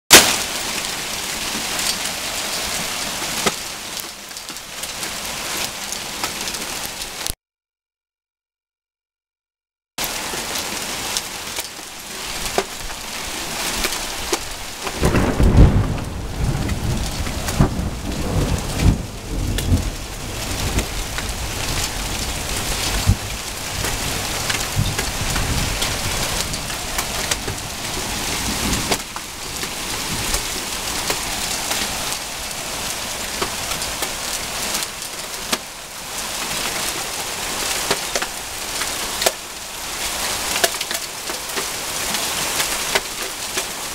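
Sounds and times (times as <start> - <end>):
hail pelting ground and fence: 0.1 - 7.3, 10.0 - 43.9.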